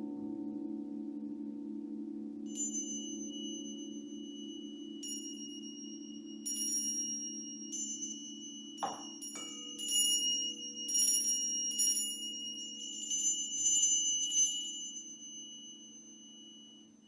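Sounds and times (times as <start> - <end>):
crystal singing bowls humming: 1.4 - 17.0
high bell-like chimes: 2.5 - 17.0.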